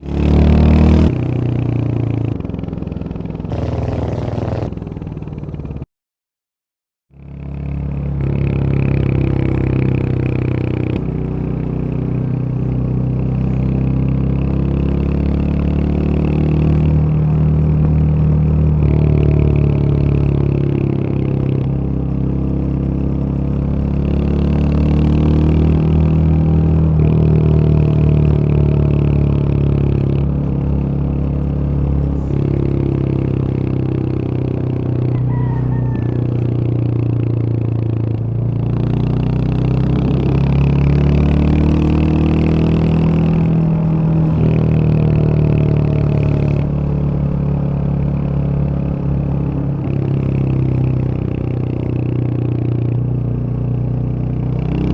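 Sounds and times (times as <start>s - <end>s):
motorcycle engine shifting gears: 0.0s - 5.9s, 7.2s - 35.4s, 36.0s - 54.9s.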